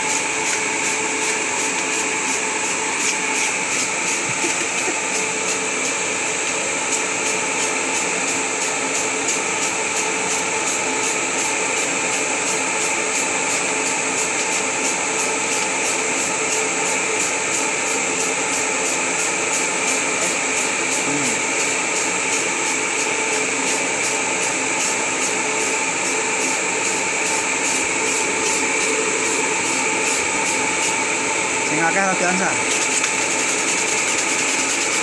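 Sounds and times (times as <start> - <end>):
duct fan running: 0.0 - 35.0.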